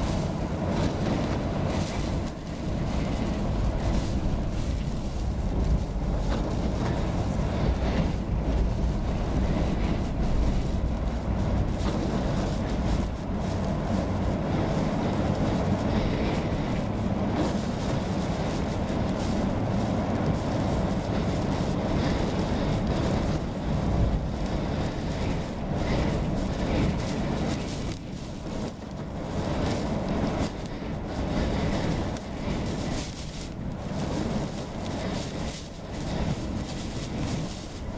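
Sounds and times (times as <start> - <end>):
rain against car: 0.0 - 37.9
tyres and engine rumble: 0.0 - 37.9
wind against car: 0.0 - 37.9.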